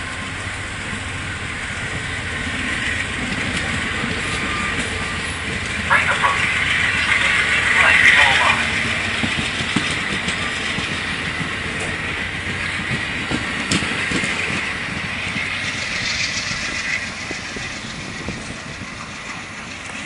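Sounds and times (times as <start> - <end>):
train wheels rolling over rails: 0.0 - 20.0.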